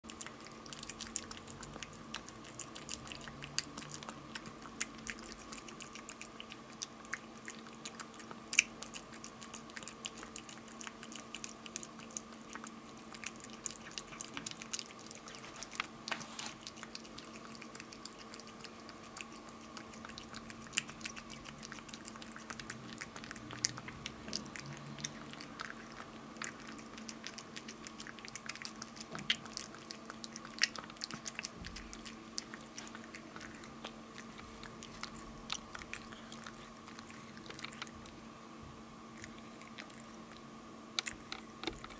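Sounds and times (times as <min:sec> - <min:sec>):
cat chewing wet food: 0:00.0 - 0:41.9
faint steady hum: 0:00.0 - 0:41.9.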